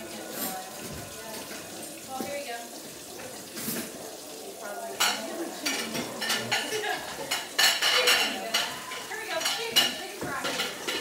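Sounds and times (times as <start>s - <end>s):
dishes and cutlery clattering: 0.0s - 2.4s, 3.1s - 4.2s, 4.9s - 11.0s.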